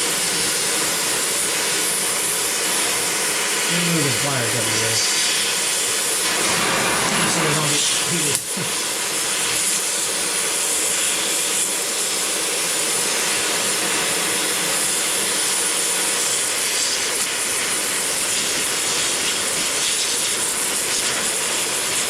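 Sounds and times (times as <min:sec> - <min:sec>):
gas torch flame roaring: 0:00.0 - 0:22.0.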